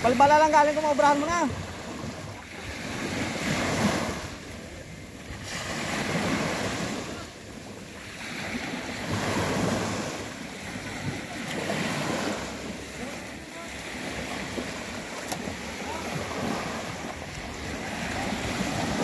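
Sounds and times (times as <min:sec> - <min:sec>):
small waves breaking on sand: 0:00.0 - 0:19.0.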